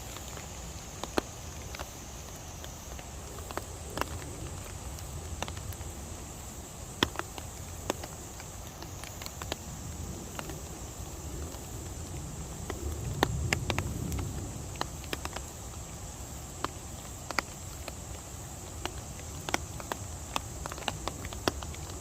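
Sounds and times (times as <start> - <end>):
rain hissing: 0.0 - 22.0
raindrops ticking nearby: 0.0 - 22.0.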